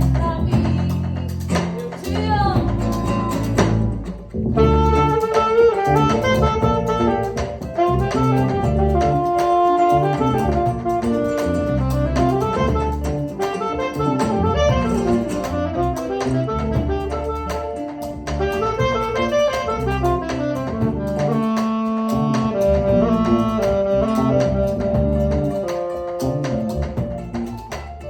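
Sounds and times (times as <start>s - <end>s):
live band instrumental: 0.0s - 28.0s.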